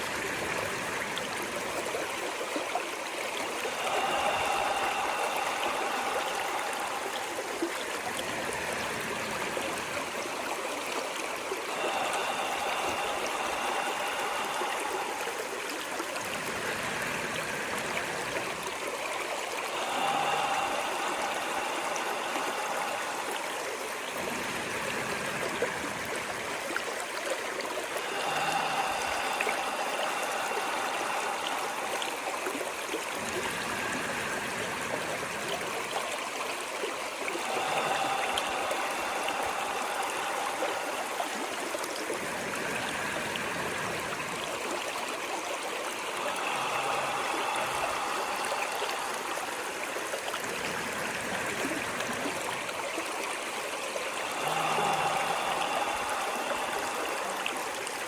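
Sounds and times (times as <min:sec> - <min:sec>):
faint gurgling water: 0:00.0 - 0:58.0
stream of running water: 0:00.0 - 0:58.0.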